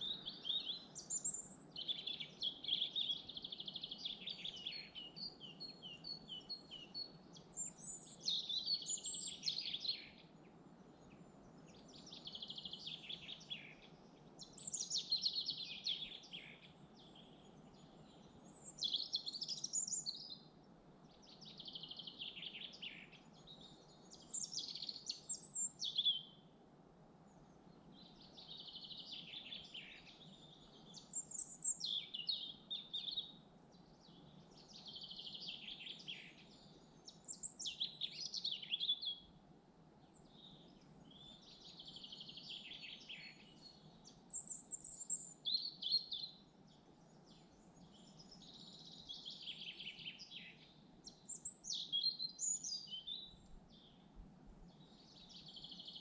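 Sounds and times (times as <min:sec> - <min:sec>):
songbird singing high phrases: 0:00.0 - 0:26.5, 0:27.4 - 0:39.4, 0:40.0 - 0:56.0
faint steady hiss: 0:00.0 - 0:56.0.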